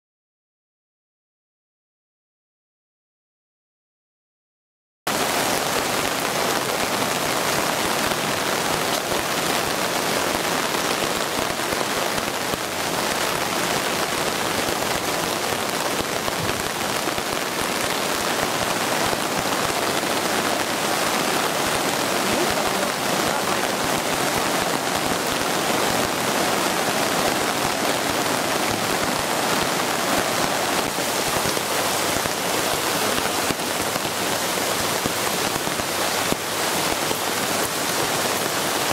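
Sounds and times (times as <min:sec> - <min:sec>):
heavy rain: 0:05.1 - 0:38.9
running floodwater: 0:05.1 - 0:38.9.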